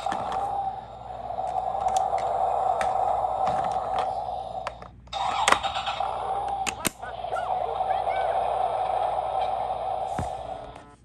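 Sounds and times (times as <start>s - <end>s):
toy car motor whirring: 0.0s - 10.9s.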